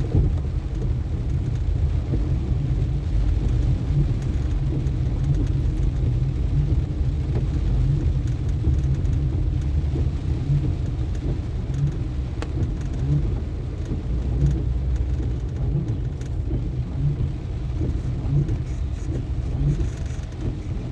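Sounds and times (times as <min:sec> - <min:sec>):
car driving on wet road: 0:00.0 - 0:20.9
faint ticks: 0:00.1 - 0:20.8.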